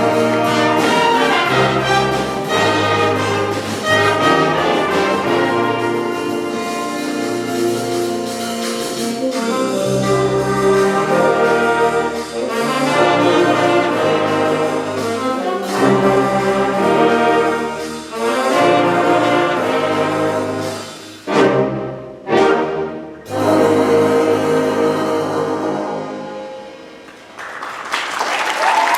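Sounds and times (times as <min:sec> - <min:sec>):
wind ensemble with brass: 0:00.0 - 0:27.3.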